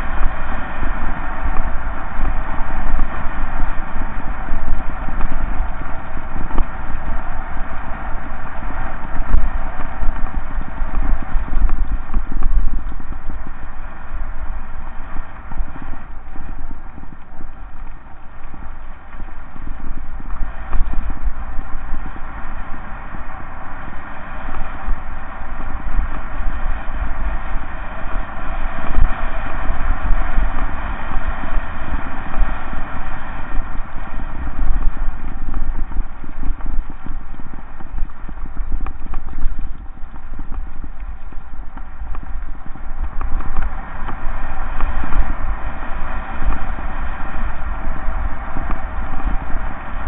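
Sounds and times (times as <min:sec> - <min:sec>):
bike rattling: 0:00.0 - 0:50.0
wind rumble on microphone: 0:00.0 - 0:50.0.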